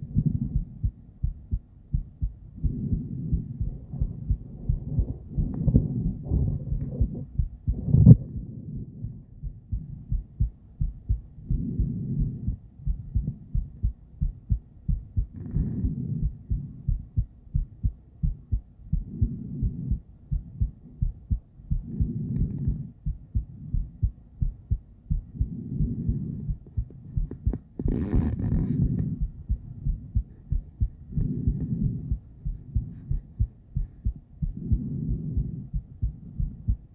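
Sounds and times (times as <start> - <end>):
heartbeat thumps: 0.0 - 36.9.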